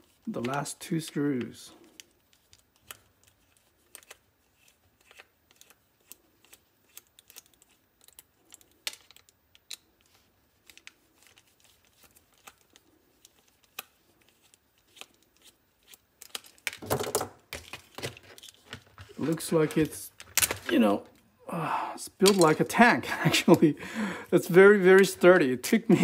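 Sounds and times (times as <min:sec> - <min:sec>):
plastic parts handled: 0:00.0 - 0:21.2, 0:22.2 - 0:25.3.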